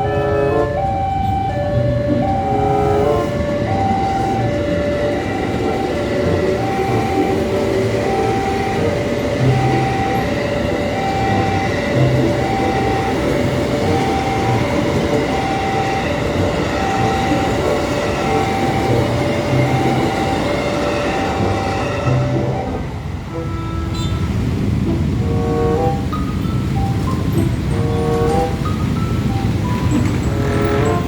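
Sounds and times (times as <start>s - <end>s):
train rumbling past: 0.0s - 31.0s
two-note warning tone: 0.0s - 31.0s.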